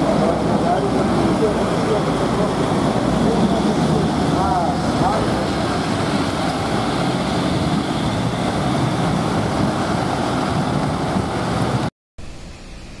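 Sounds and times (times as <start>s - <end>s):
cars driving past: 0.0s - 11.9s.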